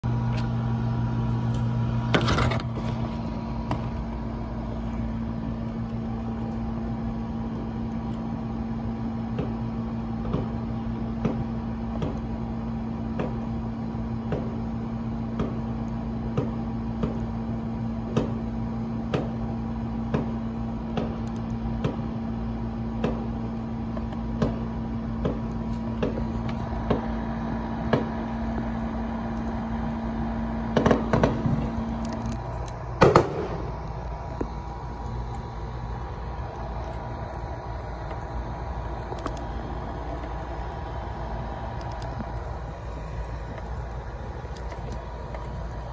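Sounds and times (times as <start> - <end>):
steady mechanical hum: 0.0 - 45.9
distant fireworks popping: 2.1 - 45.9.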